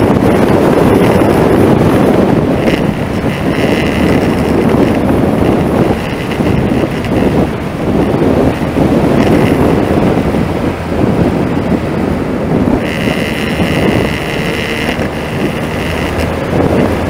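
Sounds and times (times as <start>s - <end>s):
car engine and tyre noise: 0.0s - 17.0s
wind rushing over microphone: 0.0s - 17.0s.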